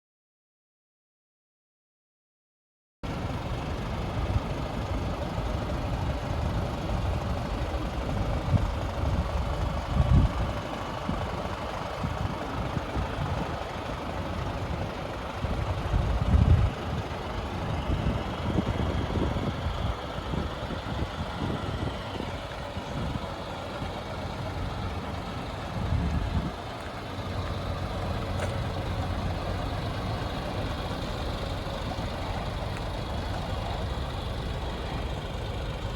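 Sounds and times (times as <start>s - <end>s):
diesel truck engine idling: 3.0s - 35.9s.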